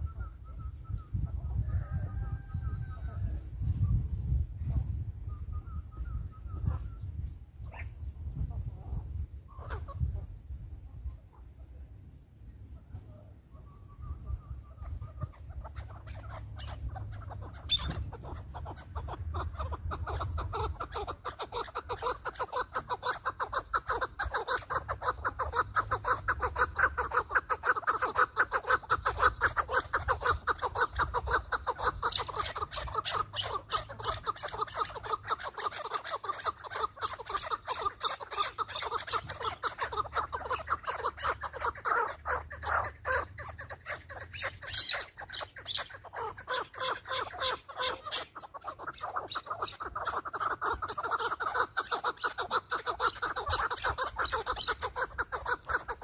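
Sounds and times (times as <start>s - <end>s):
partridge clucking calls: 6.2s - 11.8s, 12.8s - 56.0s.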